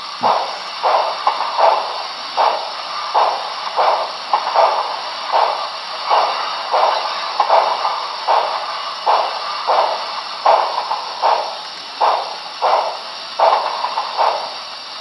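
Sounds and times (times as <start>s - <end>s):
constant steam hiss: 0.0s - 15.0s
steam locomotive chuffs: 0.0s - 15.0s.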